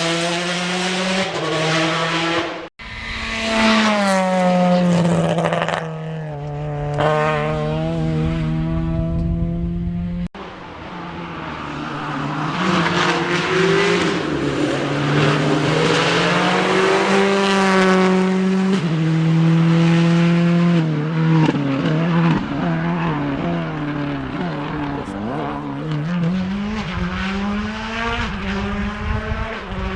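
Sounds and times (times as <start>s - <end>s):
rally car engine passing: 0.0s - 29.9s.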